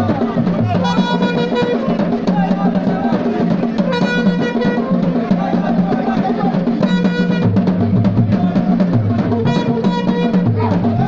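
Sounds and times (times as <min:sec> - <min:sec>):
fast drumming: 0:00.0 - 0:11.0.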